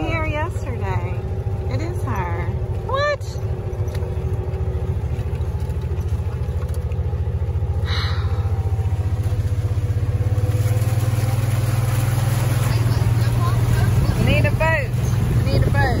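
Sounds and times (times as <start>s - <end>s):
vehicle engine rumbling: 0.0s - 16.0s
water splashing at wheel: 0.0s - 16.0s.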